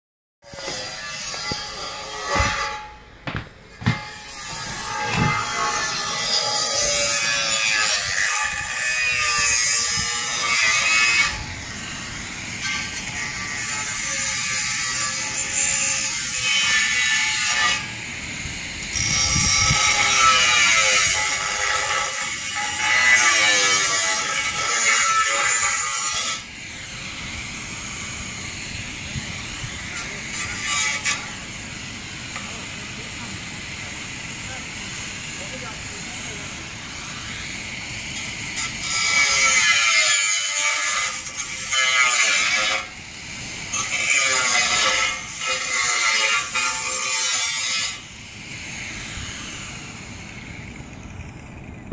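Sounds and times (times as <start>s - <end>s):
angle grinder cutting metal sheet: 0.4s - 51.0s.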